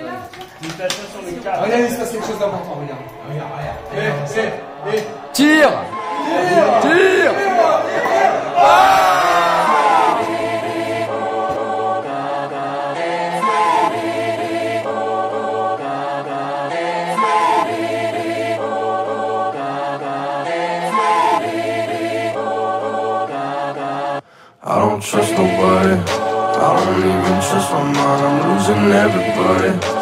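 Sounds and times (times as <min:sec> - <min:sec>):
choir-like vocal chords: 0:01.6 - 0:30.0.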